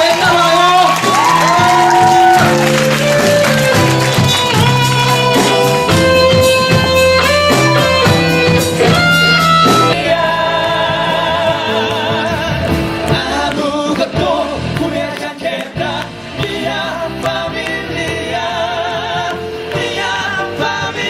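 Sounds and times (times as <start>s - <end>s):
live instrumental music: 0.0s - 21.0s.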